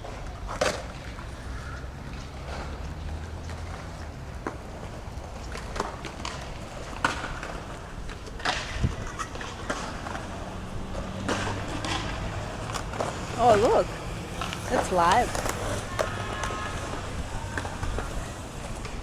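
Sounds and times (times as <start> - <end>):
skateboards hitting ground: 0.0 - 19.0.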